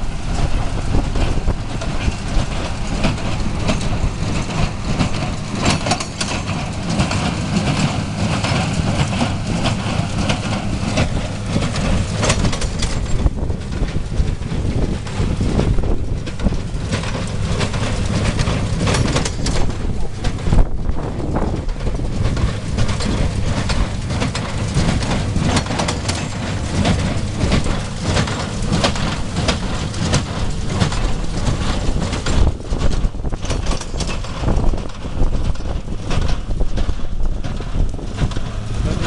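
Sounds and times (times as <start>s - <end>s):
tractor engine running: 0.0s - 39.0s
baler mechanism clattering: 0.2s - 39.0s.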